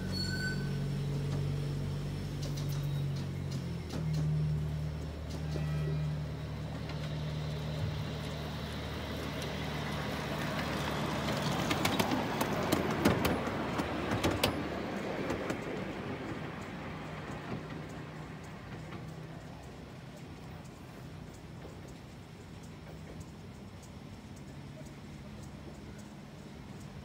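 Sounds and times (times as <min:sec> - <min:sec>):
miniature train passing: 0:00.0 - 0:27.0
wheels clicking over rail joints: 0:00.0 - 0:27.0.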